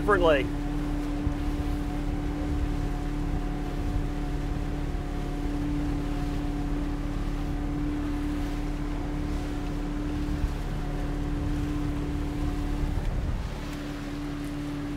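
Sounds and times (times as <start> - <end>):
motorboat engine droning: 0.0 - 14.9
water rushing past hull: 0.0 - 14.9
wind on microphone: 0.0 - 14.9.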